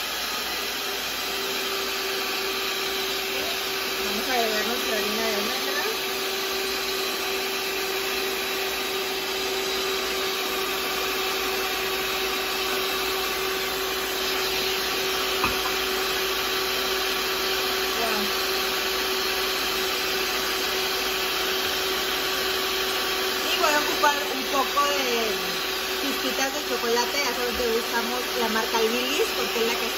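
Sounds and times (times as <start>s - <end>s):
stand mixer whirring: 0.0s - 29.9s.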